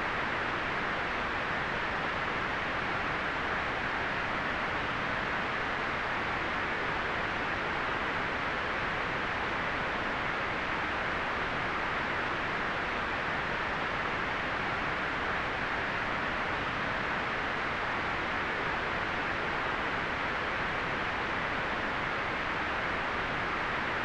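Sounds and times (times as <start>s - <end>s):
white noise hiss: 0.0s - 24.0s.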